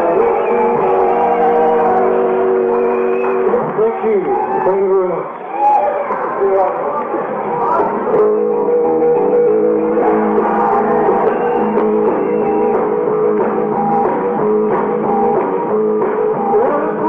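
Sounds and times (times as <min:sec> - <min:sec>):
guitar sustained notes: 0:00.0 - 0:05.2, 0:06.9 - 0:17.0
live rock band playing: 0:00.0 - 0:05.2, 0:07.0 - 0:17.0.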